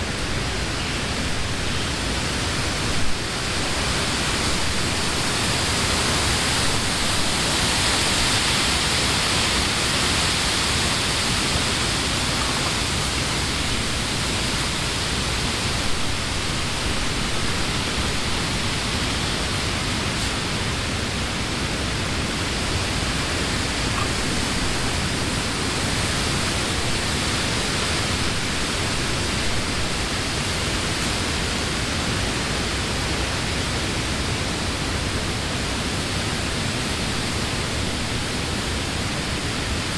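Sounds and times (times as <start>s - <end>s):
wind rustling leaves: 0.0s - 39.9s.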